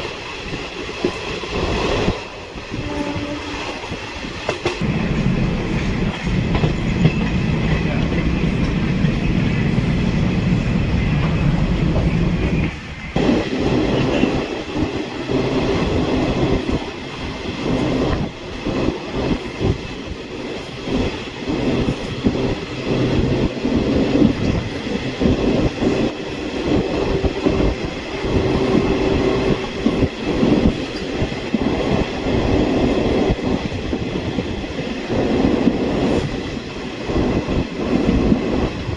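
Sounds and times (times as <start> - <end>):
train rumbling on rails: 0.0 - 38.9.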